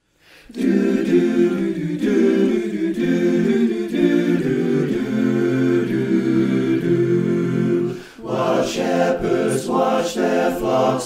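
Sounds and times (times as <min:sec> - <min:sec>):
men's chorus singing in harmony: 0:00.5 - 0:11.0.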